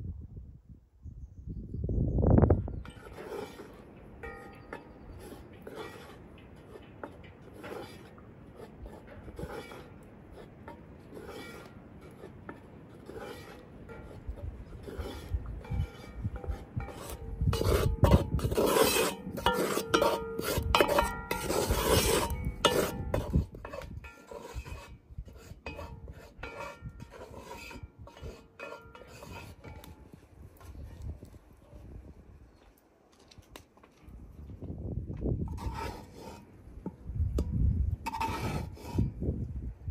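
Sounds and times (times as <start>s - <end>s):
spatula scraping flour in metal pot: 2.8s - 31.0s, 35.4s - 39.2s.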